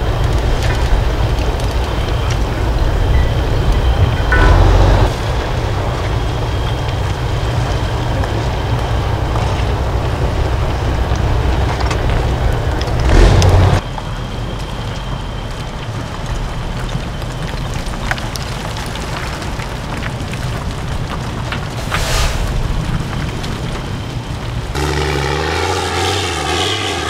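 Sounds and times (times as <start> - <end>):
truck engine working under load: 0.0 - 19.9, 20.5 - 27.0.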